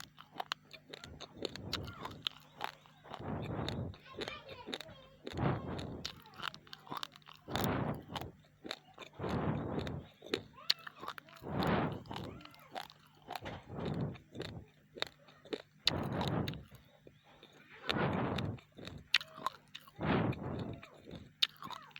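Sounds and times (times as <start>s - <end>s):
person chewing raw rice: 0.0s - 21.9s.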